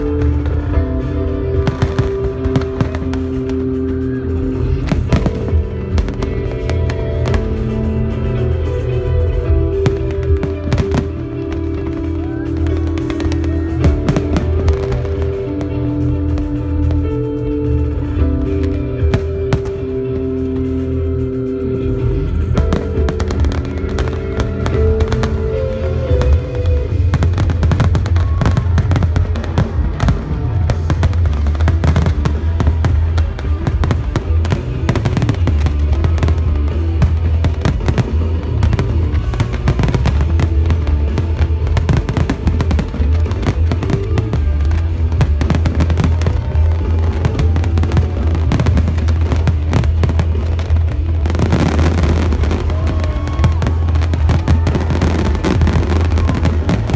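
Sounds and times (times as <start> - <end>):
fireworks bangs and booms: 0.0 - 8.8, 9.8 - 17.0, 22.6 - 56.9
music with held tones: 0.0 - 56.9.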